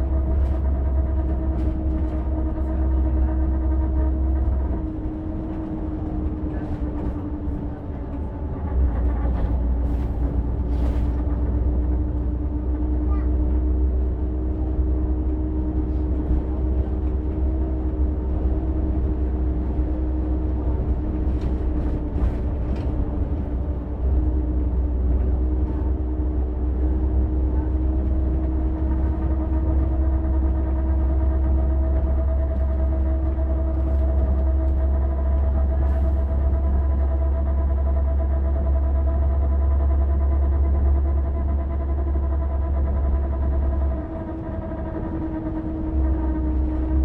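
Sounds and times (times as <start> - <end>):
bus engine rumbling: 0.0 - 47.0.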